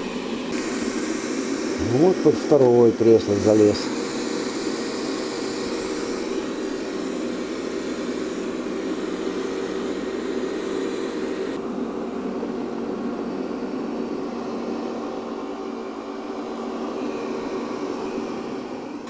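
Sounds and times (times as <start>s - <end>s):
robot vacuum whirring: 0.0s - 19.0s.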